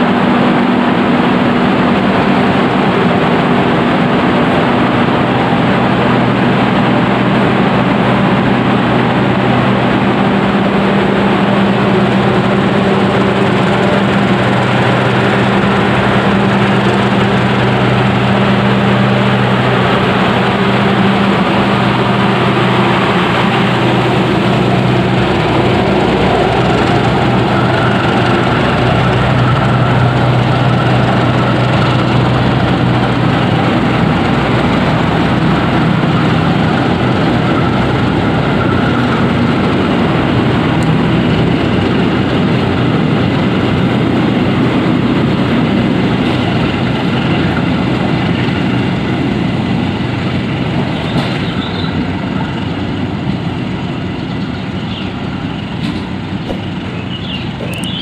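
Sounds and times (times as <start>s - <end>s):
low hum: 0.0s - 58.0s
train coaches rumbling past: 0.0s - 58.0s.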